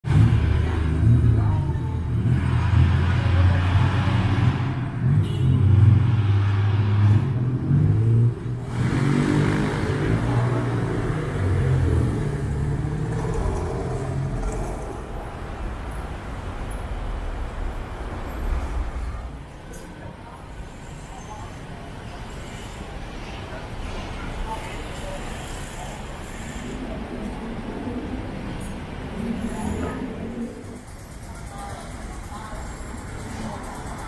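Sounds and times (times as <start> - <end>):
road traffic engine hum: 0.0 - 34.0.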